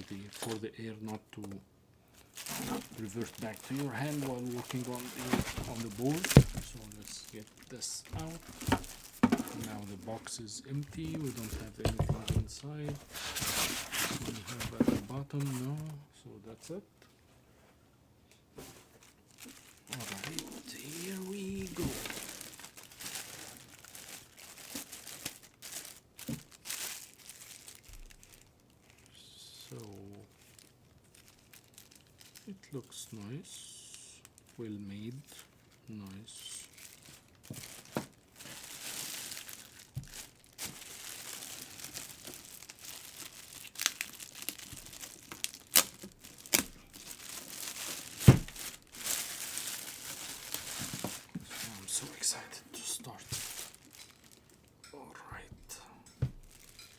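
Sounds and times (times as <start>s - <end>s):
packaging crinkling and rustling: 0.0s - 16.0s, 18.6s - 33.4s, 34.2s - 54.9s, 56.1s - 56.9s.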